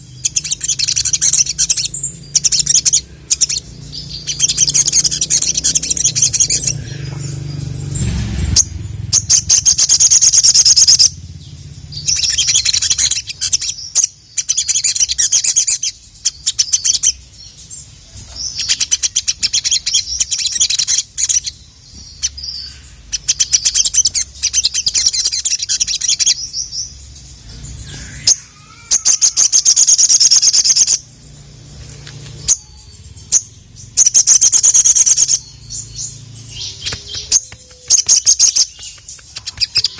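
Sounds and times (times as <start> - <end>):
bird chattering trills: 0.0 - 31.7, 32.4 - 39.9.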